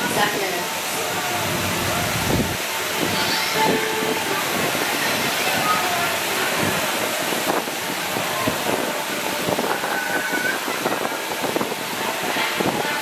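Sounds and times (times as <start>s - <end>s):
fountain water splashing: 0.0s - 13.0s
wind buffeting microphone: 0.0s - 13.0s.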